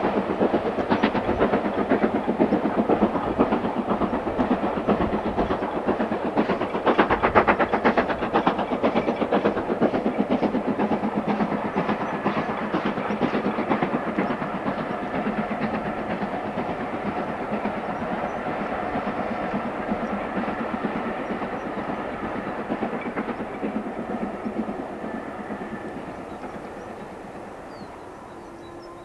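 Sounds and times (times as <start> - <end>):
steam locomotive exhaust beats: 0.0 - 29.0.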